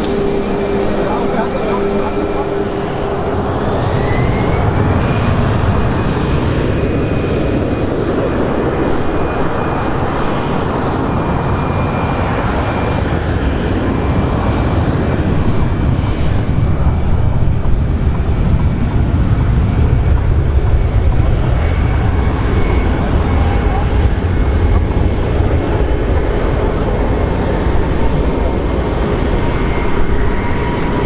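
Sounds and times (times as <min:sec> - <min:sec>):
jet engines at takeoff: 0:00.0 - 0:31.0.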